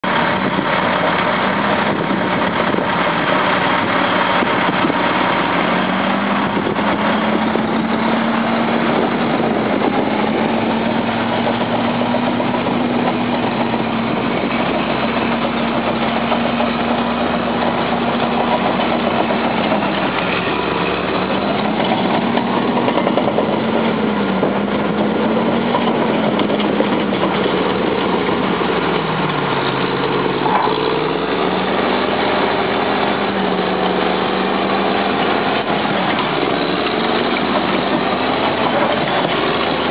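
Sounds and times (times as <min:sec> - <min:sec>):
heavy diesel engines: 0:00.0 - 0:39.9.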